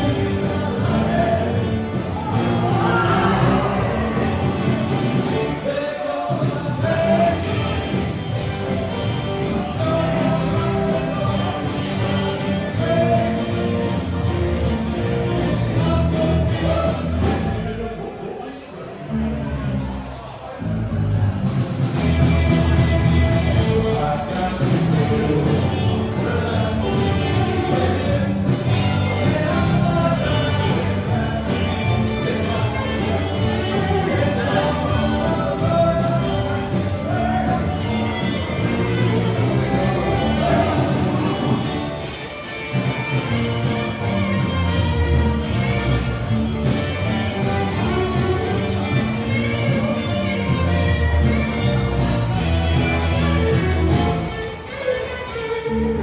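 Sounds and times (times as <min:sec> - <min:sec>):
live band music: 0:00.0 - 0:18.2, 0:19.0 - 0:56.0
person singing: 0:00.0 - 0:18.4, 0:22.0 - 0:56.0.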